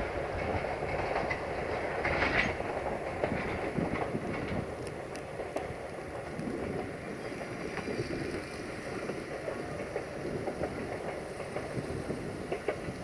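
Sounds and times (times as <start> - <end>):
train rumbling away: 0.0 - 13.0
train wheels clicking: 0.0 - 13.0.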